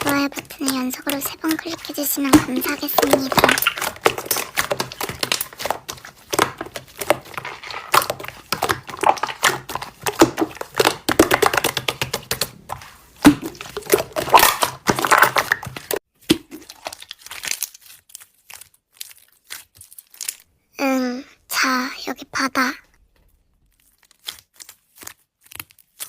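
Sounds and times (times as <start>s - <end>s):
slime crackling and popping: 0.0s - 20.5s, 23.1s - 26.0s.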